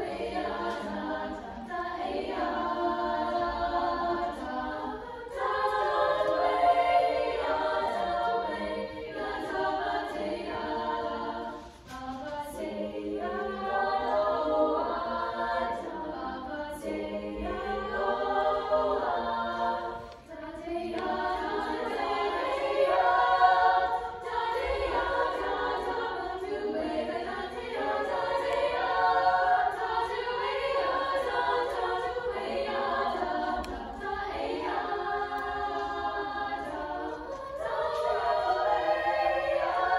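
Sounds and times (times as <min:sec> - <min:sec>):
girls' choir singing: 0:00.0 - 0:39.9.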